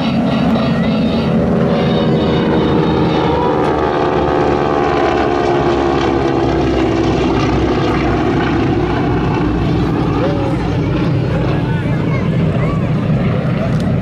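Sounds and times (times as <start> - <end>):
propeller aircraft engine drone: 0.0 - 14.0.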